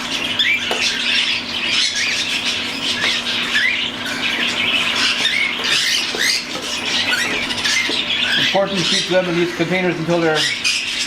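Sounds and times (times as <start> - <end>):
cockatiels chirping and squawking: 0.0 - 11.0.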